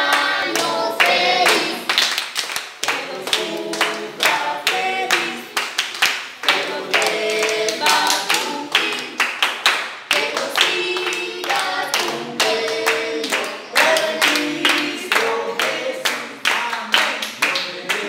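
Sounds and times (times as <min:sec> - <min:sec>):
group of people singing: 0:00.0 - 0:18.0
rhythmic hand clapping: 0:00.0 - 0:18.0.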